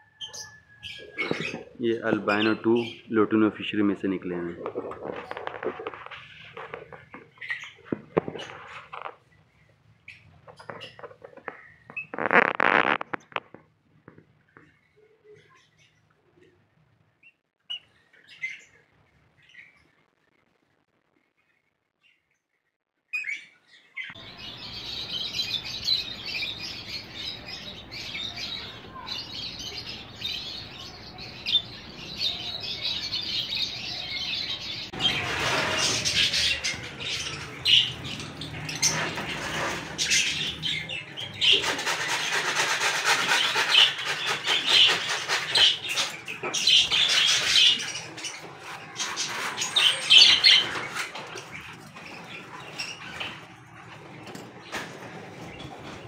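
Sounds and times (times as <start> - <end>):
lovebirds chirping: 0.0 - 13.6, 23.2 - 42.4, 43.5 - 56.0.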